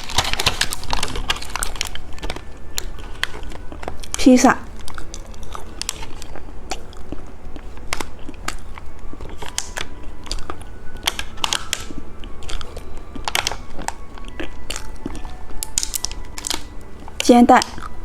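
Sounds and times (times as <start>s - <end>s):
candy being chewed: 0.0s - 18.0s.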